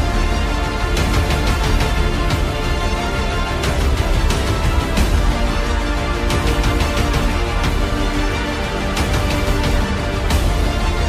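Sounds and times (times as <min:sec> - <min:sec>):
music with strong bass beat: 0:00.0 - 0:11.0.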